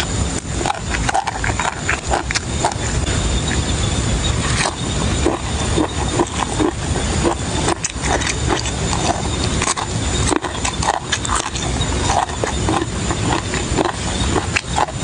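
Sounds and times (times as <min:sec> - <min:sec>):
chewing and mouth smacking: 0:00.0 - 0:03.6, 0:04.4 - 0:15.0.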